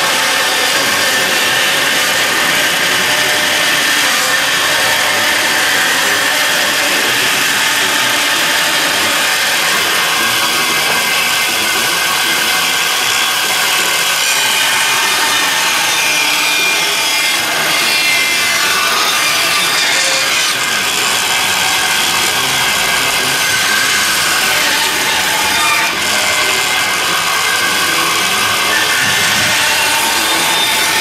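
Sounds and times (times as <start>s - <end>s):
saw rubbing on timber: 0.0s - 31.0s.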